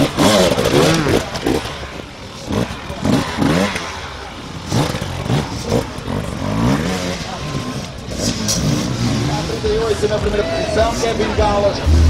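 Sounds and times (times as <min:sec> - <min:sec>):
motorcycle revving in throttle blips: 0:00.0 - 0:10.2.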